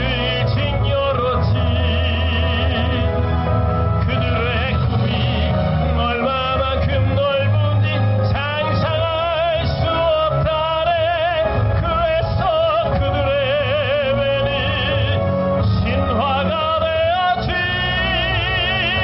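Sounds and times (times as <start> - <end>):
instrumental accompaniment: 0.0 - 19.0
tenor singing into microphone: 0.0 - 19.0.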